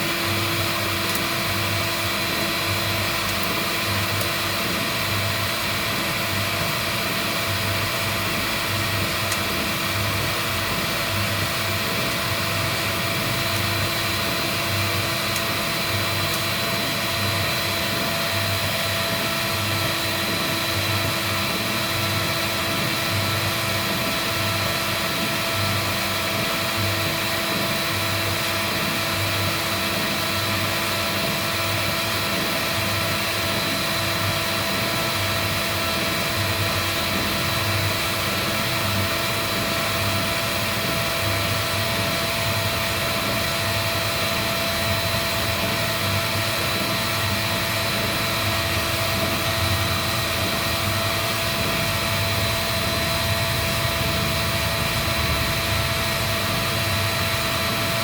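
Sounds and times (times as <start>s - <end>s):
heat gun blowing: 0.0s - 58.0s.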